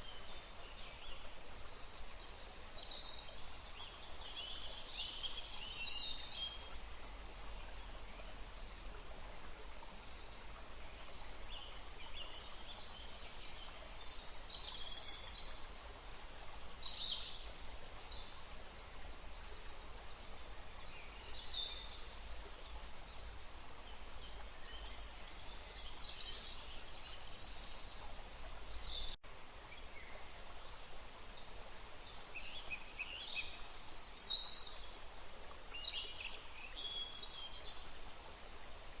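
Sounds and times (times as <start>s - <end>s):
running water: 0.0s - 39.0s
wind in trees: 0.0s - 39.0s.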